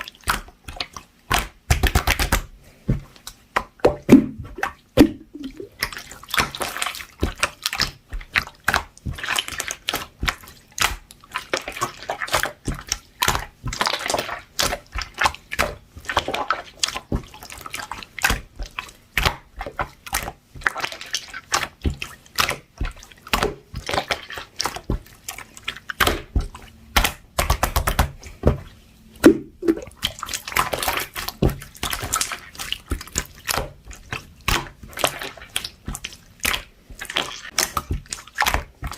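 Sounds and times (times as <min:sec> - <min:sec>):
slime squelching and popping: 0:00.0 - 0:38.9.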